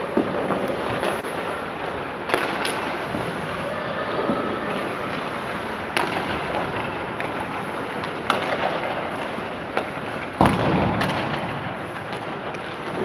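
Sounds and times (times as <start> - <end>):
hockey sticks knocking puck: 0.0 - 3.4, 4.7 - 13.0
ice rink noise: 0.0 - 13.0.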